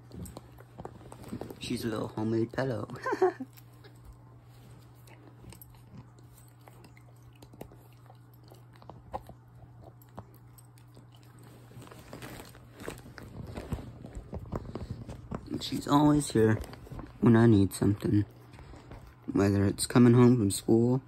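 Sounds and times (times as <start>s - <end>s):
puppy chewing: 0.0s - 20.8s
low steady hum: 0.0s - 21.0s.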